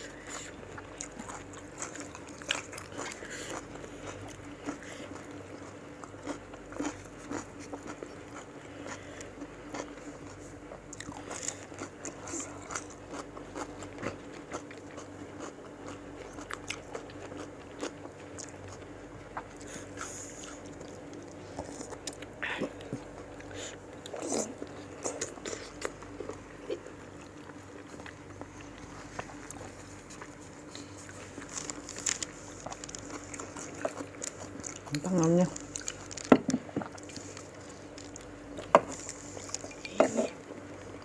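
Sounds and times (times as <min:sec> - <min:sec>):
crunching and chewing fruit: 0:00.0 - 0:41.0
faint steady hum: 0:00.0 - 0:41.0.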